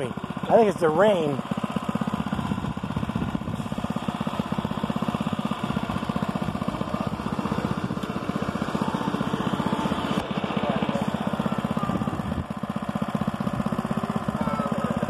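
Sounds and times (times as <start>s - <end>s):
small gas engine idling: 0.0s - 15.0s.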